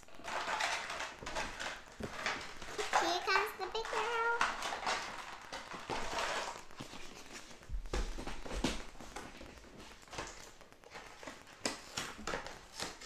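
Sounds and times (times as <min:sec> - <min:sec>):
soft rustling of doll clothes: 0:01.3 - 0:13.0.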